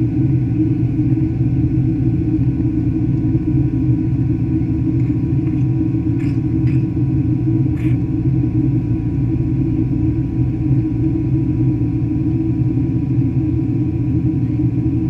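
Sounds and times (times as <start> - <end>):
airplane engines rumbling in cabin: 0.0 - 15.0.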